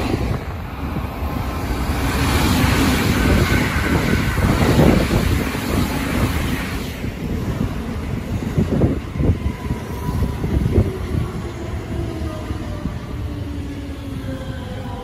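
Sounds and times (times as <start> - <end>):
train wheels rumbling on rail: 0.0 - 15.0
wind buffeting microphone: 0.0 - 15.0.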